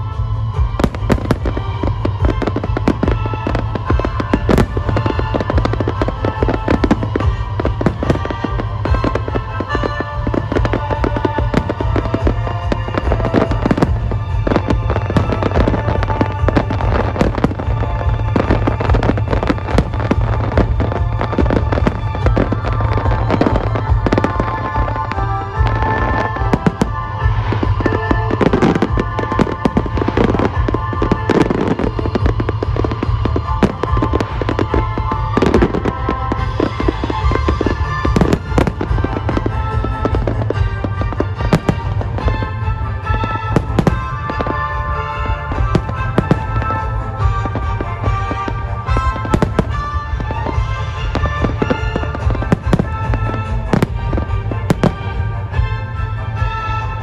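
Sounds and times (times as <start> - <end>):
music with sustained tones: 0.0 - 57.0.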